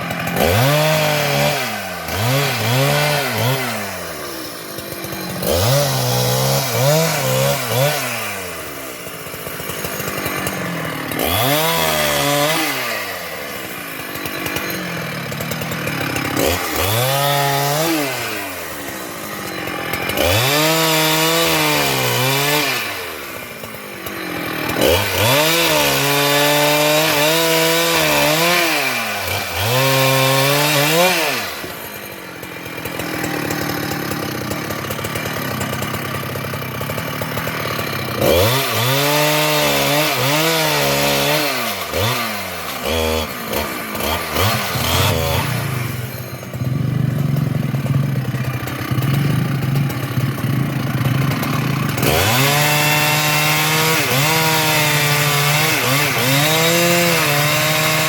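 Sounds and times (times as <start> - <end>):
chainsaw revving and idling: 0.0 - 58.0.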